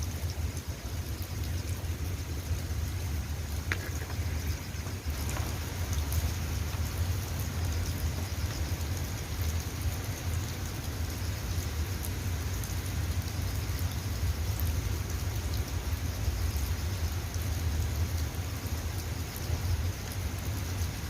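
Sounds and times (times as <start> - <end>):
constant low rumble: 0.0 - 21.0
rain falling: 0.0 - 21.0.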